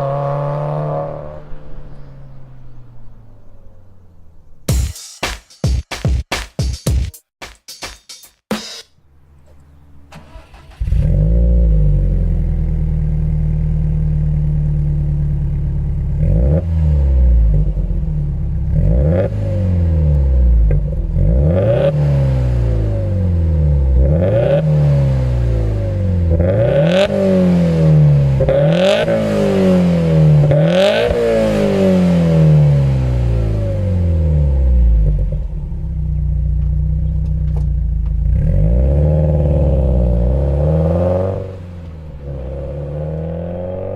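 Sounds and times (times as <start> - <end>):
car engine idling and revving: 0.0 - 4.7, 9.0 - 43.9.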